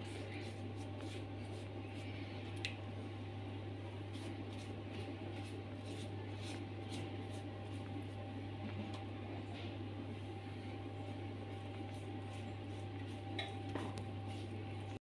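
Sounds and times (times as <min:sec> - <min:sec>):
pastry brush dabbing dough: 0:00.0 - 0:08.8, 0:10.4 - 0:15.0
steady low hum: 0:00.0 - 0:15.0.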